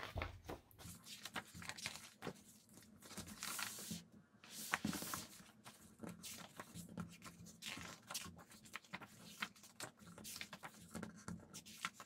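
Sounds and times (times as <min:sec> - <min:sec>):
book pages turning: 0:00.0 - 0:12.0.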